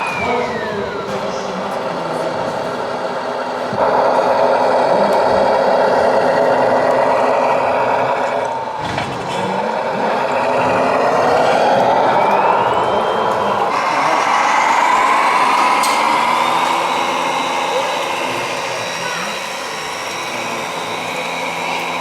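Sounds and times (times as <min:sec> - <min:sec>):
model truck motor running: 0:00.0 - 0:22.0.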